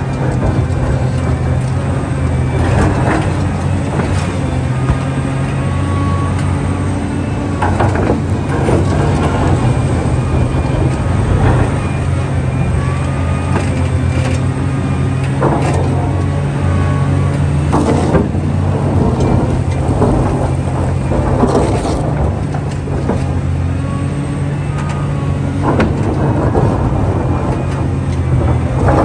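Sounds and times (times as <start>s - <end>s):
heavy machine diesel engine running: 0.0s - 29.0s.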